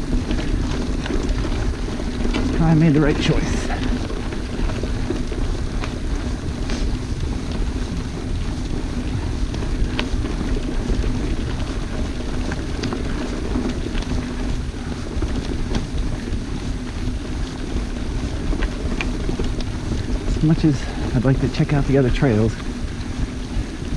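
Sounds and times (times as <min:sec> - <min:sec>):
bike clicks and rattles: 0:00.0 - 0:23.9
wind rushing on microphone: 0:00.0 - 0:23.9.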